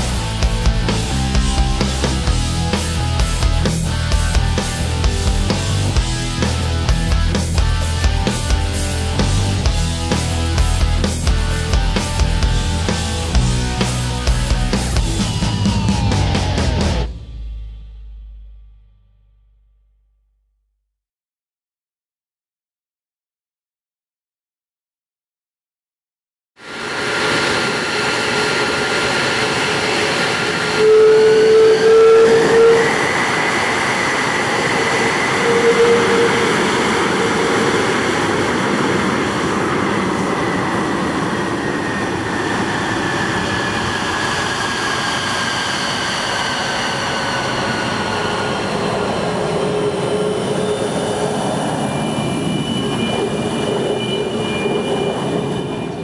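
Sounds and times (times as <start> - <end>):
jet engine rush: 0.0 - 17.5, 26.6 - 56.0
turbine whine: 0.0 - 17.5, 26.6 - 56.0.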